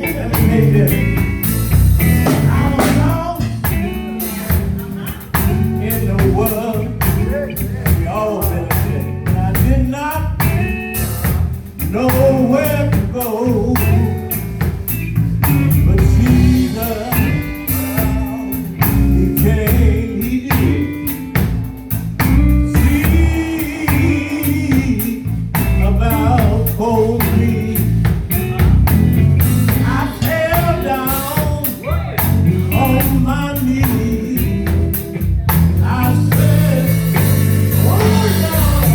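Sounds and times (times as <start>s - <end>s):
person singing: 0.0s - 10.9s, 11.8s - 14.8s, 15.6s - 21.6s, 22.2s - 38.9s
live gospel band: 0.0s - 38.9s.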